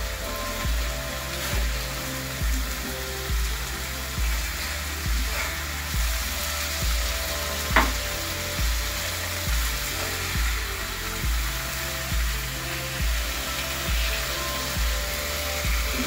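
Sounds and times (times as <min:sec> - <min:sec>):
background music with steady beat: 0:00.0 - 0:16.0
fish sizzling in oil: 0:00.0 - 0:16.0.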